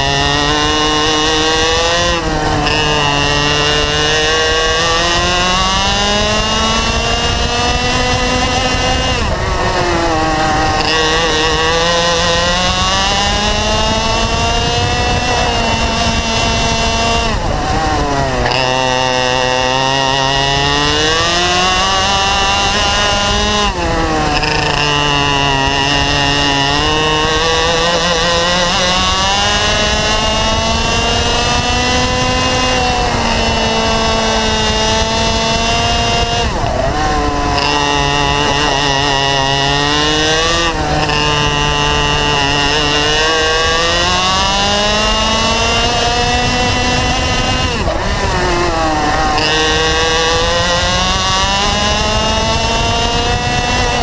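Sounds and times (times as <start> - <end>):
two-stroke kart engine at full throttle: 0.0 - 54.0.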